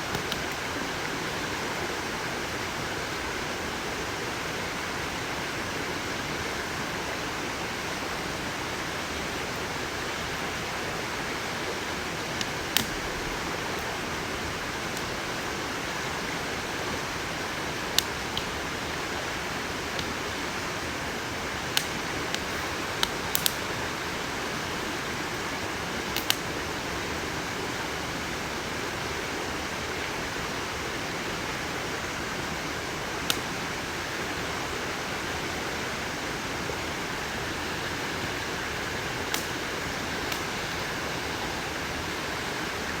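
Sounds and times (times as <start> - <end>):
campfire burning: 0.0 - 5.6, 7.7 - 43.0.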